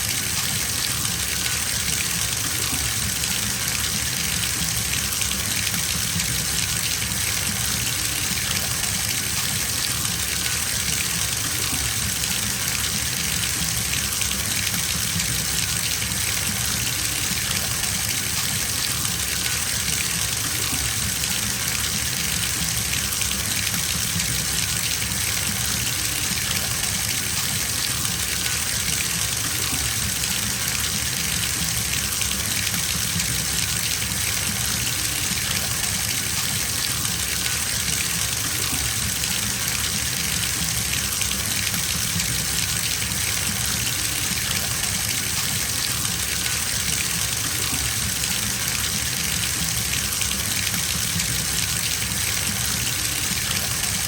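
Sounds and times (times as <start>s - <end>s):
water pouring into bathtub: 0.0s - 54.0s.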